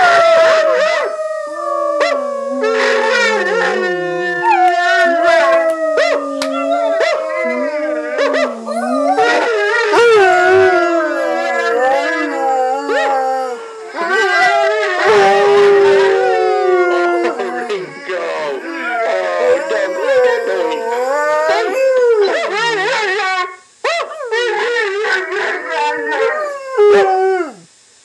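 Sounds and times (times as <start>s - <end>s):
single dog howling: 0.0s - 22.6s, 24.2s - 27.7s
dogs howling together: 0.0s - 27.7s.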